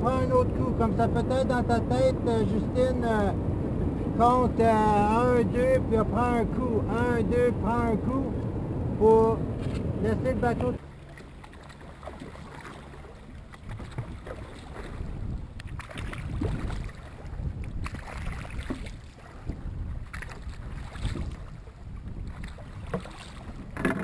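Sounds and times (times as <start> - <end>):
wind rumble on microphone: 0.0 - 10.8, 13.3 - 24.0
paddles splashing through water: 0.0 - 24.0.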